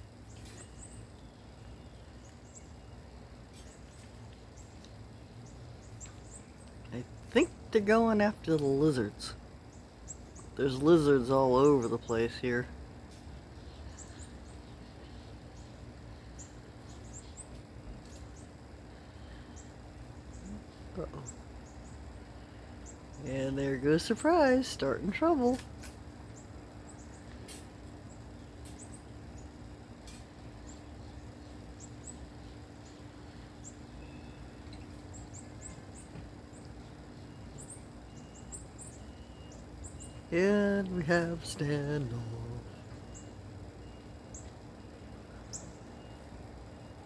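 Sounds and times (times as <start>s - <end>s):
faint steady hum: 0.0s - 47.0s
small birds chirping: 0.0s - 47.0s.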